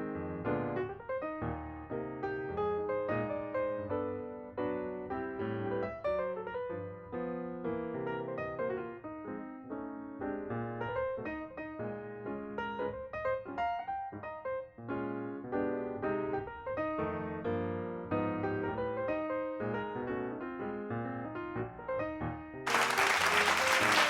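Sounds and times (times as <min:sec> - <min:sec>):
lively piano music: 0:00.0 - 0:24.0.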